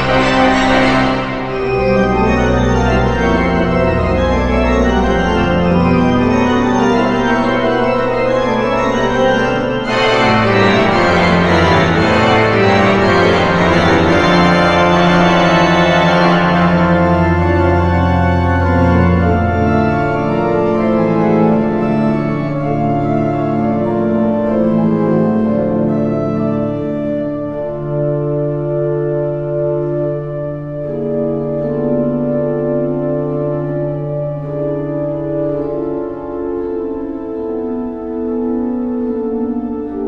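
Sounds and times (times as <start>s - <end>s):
pipe organ playing: 0.0s - 40.0s.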